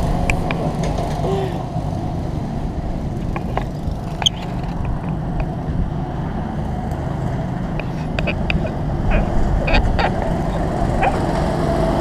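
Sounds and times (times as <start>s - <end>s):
go-kart engines running: 0.0s - 12.0s.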